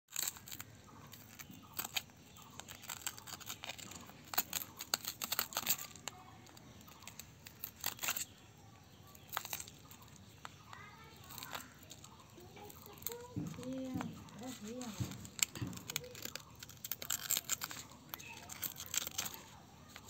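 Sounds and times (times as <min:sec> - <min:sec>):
glass crackling and snapping: 0:00.1 - 0:08.3, 0:09.1 - 0:20.0.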